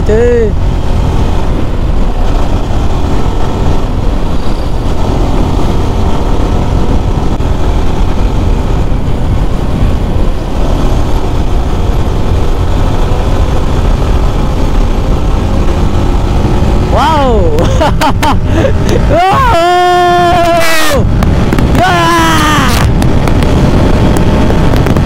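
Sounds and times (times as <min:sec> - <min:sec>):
motorcycle engine running at speed: 0:00.0 - 0:25.0
wind rush on microphone: 0:00.0 - 0:25.0.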